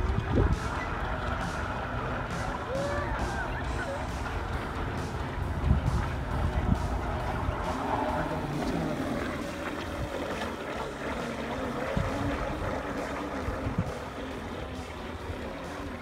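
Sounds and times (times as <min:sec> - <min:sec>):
toy boat motor humming: 0:00.0 - 0:16.0.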